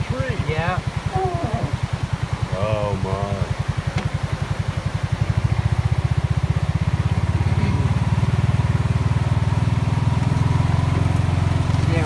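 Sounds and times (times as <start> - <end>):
vehicle engine pulsing: 0.0 - 12.0.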